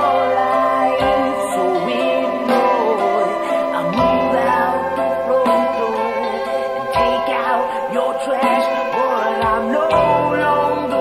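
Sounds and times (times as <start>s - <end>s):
rock music with sustained chords: 0.0s - 11.0s.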